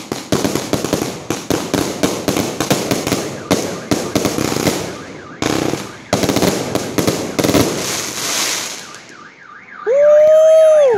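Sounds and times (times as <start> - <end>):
fireworks bangs and crackles: 0.0 - 9.2.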